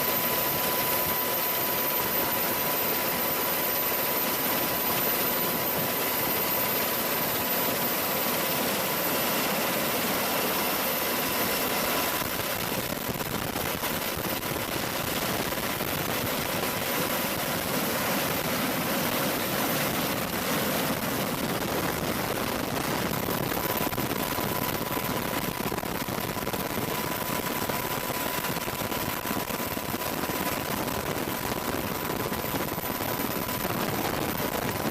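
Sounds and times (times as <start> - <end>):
helicopter turbine engine running: 0.0 - 34.9
thin high whine: 0.0 - 34.9.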